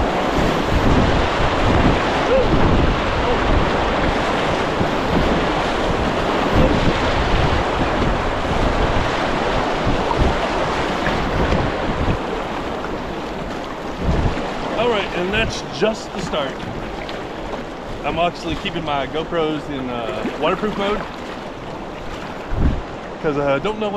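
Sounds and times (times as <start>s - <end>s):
whitewater rapids roaring: 0.0s - 23.9s
wind buffeting microphone: 0.0s - 23.9s.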